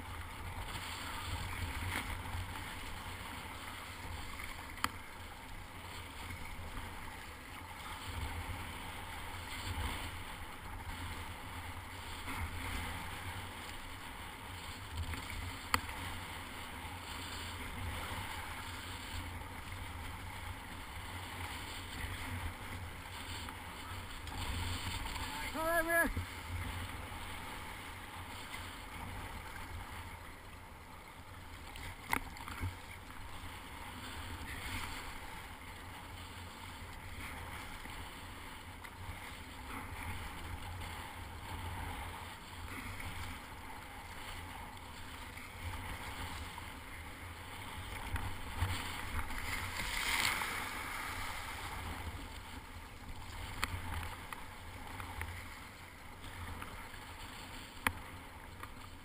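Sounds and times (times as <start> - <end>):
paddle strokes: 0.0 - 59.0
water splashing against hull: 0.0 - 59.0.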